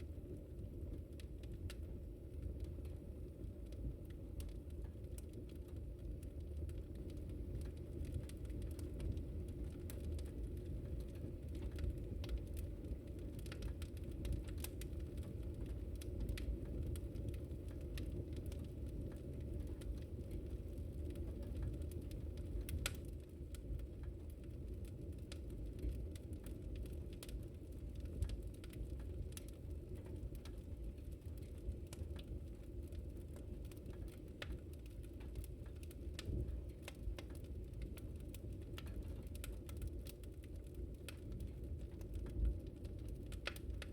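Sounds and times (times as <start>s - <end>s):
fire crackling and popping: 0.0s - 43.9s
fire rumbling: 0.0s - 43.9s.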